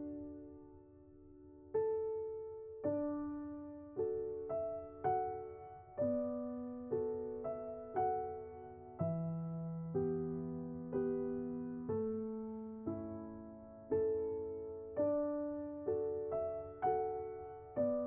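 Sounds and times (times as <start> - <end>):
gentle solo piano: 0.0 - 18.0.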